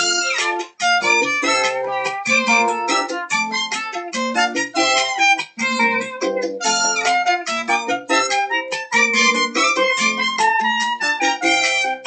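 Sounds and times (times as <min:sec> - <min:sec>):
instrumental children's song music: 0:00.0 - 0:12.0.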